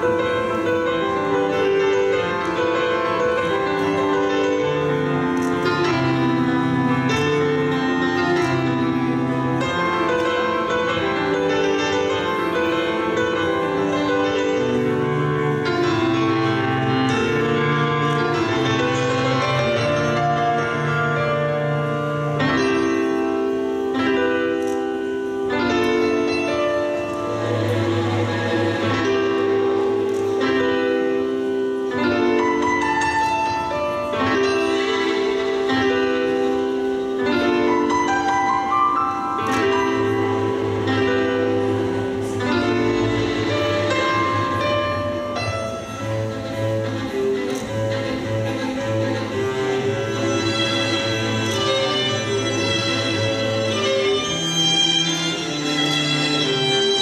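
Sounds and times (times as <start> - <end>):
piano playing held chords: 0.0 - 57.0.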